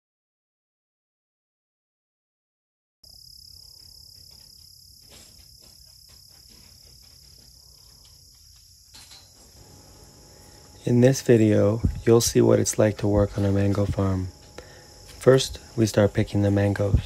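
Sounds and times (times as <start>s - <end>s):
insects chirring: 3.0s - 17.0s.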